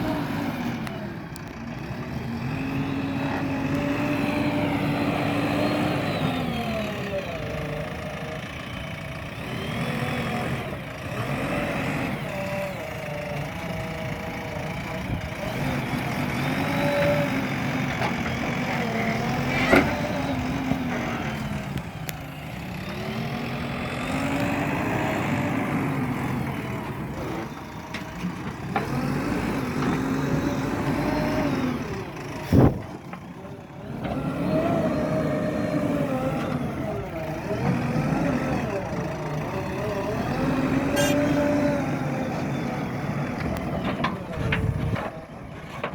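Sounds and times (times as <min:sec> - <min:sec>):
digger diesel engine working: 0:00.0 - 0:45.9.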